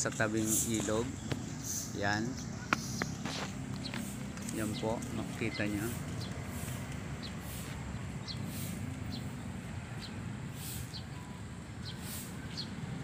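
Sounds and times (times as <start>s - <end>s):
low outdoor rumble: 0.0s - 13.0s
small bird chirping: 0.4s - 12.9s.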